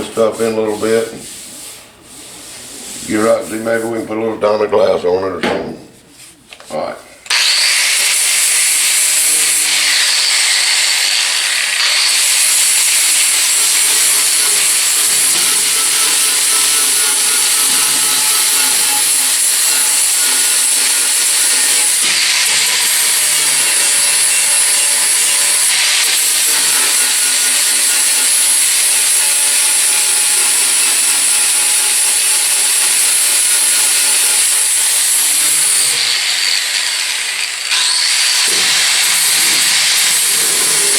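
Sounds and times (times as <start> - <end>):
angle grinder grinding steel: 7.2 - 40.9.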